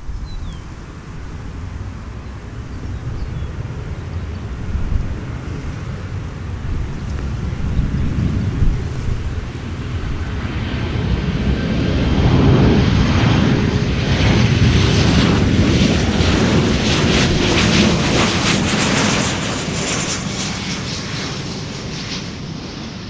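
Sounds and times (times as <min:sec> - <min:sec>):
jet engines in reverse thrust: 0:00.0 - 0:23.0.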